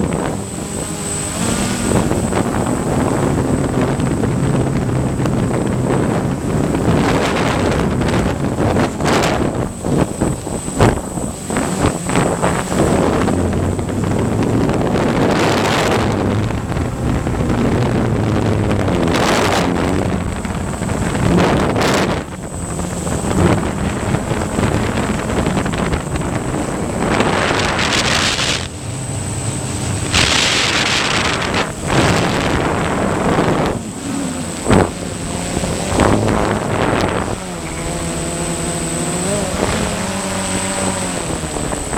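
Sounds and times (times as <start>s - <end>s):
drone propellers humming: 0.0s - 41.9s
wind buffeting microphone: 0.0s - 41.9s.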